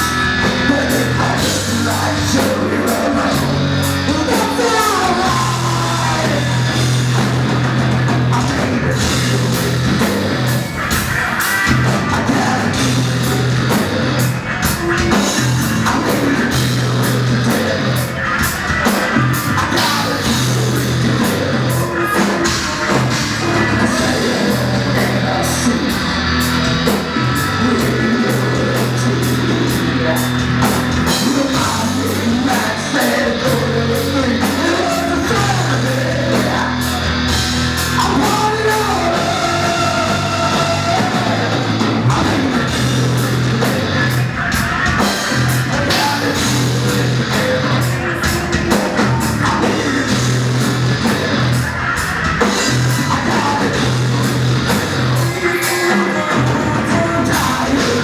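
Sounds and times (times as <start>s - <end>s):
bass line: 0.0s - 58.0s
distorted electric guitars: 0.0s - 58.0s
person singing: 0.0s - 58.0s
pounding drum kit: 0.0s - 58.0s.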